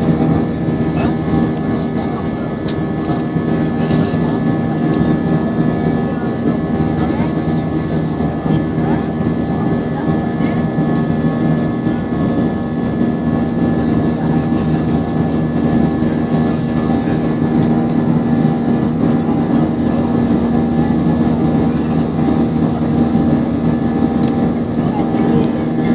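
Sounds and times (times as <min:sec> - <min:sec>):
airliner cabin engine noise: 0:00.0 - 0:25.9.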